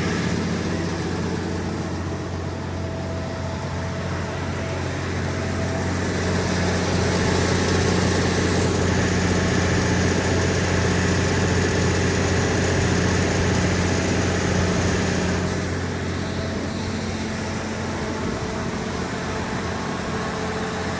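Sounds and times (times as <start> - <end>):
diesel generator running: 0.0 - 20.9.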